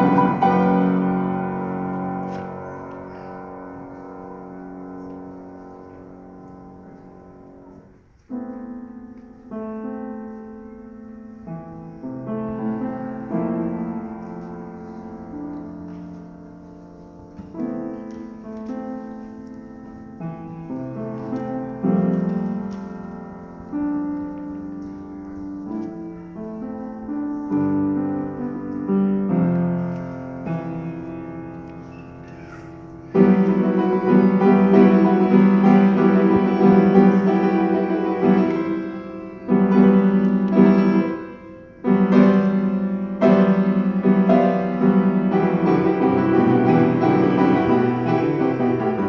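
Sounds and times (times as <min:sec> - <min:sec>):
solo piano slow chords: 0:00.0 - 0:49.0.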